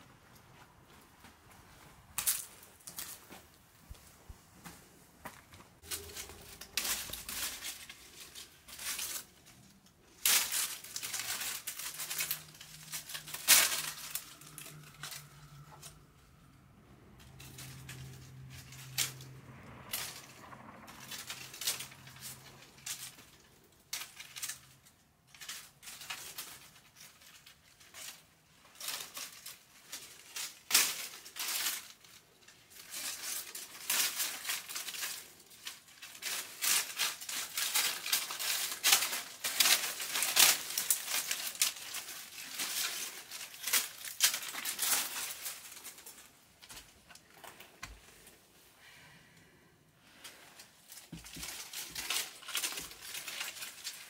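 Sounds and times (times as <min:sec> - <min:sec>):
dry leaves rustling: 0:00.9 - 0:04.0, 0:05.8 - 0:48.5, 0:50.1 - 0:54.0
dry branches snapping: 0:05.8 - 0:48.0, 0:50.8 - 0:54.0.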